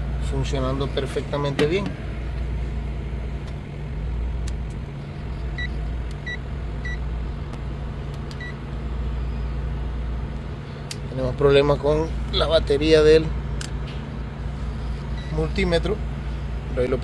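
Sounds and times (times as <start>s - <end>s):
refrigerator compressor humming: 0.0s - 17.0s.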